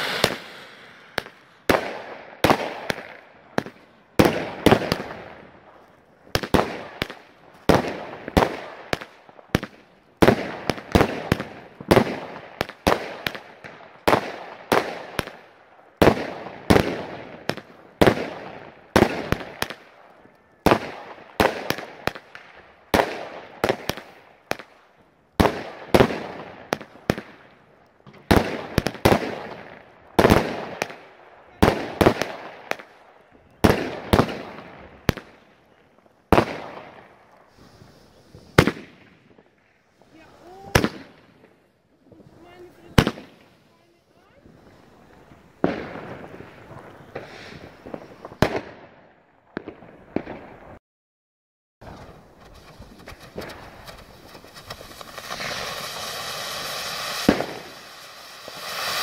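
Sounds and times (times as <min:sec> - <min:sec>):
fireworks bangs with crackle: 0:00.0 - 0:50.8, 0:51.8 - 0:59.0.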